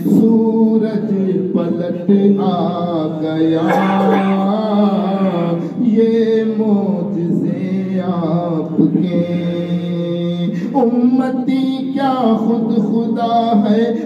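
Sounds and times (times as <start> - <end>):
man chanting unaccompanied: 0.0 - 14.0.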